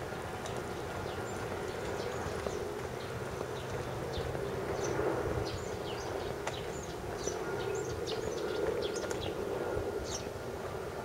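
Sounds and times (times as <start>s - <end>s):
low outdoor hum: 0.0s - 11.0s
small birds chirping: 0.4s - 9.4s.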